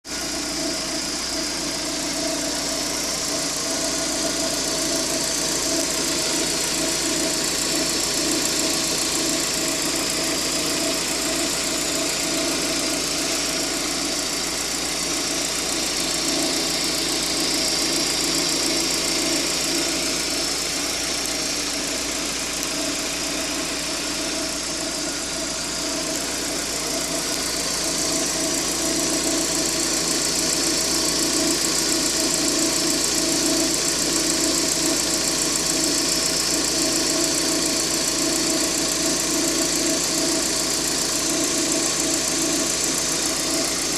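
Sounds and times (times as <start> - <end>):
car engine running with abnormal noise: 0.0 - 43.9.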